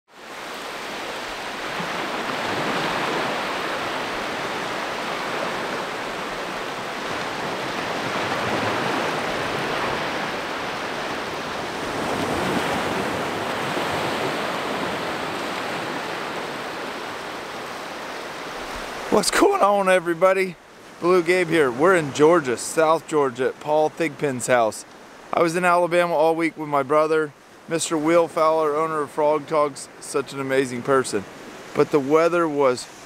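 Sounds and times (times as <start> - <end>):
waves washing onto beach: 0.1 - 33.0.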